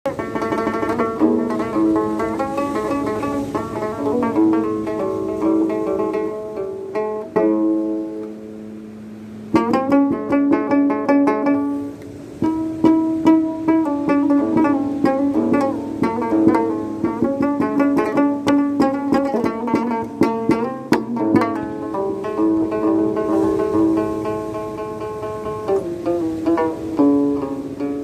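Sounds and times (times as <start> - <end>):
plucked string melody: 0.0 - 28.0.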